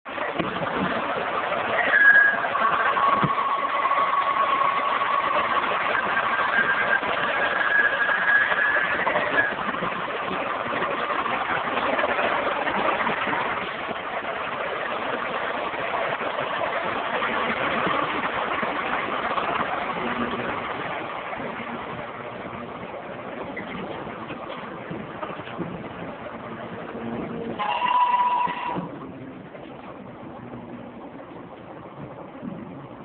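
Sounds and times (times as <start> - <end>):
steady high whine: 0.1 - 33.0.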